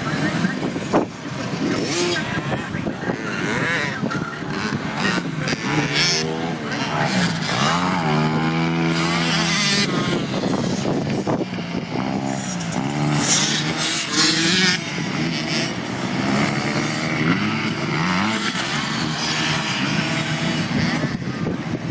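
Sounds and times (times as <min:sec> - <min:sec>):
pit bike engines revving: 0:00.0 - 0:21.9.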